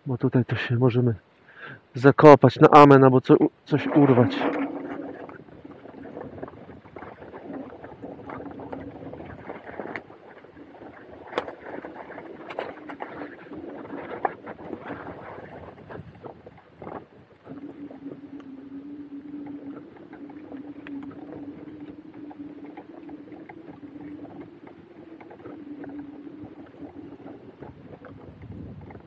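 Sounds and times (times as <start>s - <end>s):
low hum: 3.3s - 29.0s.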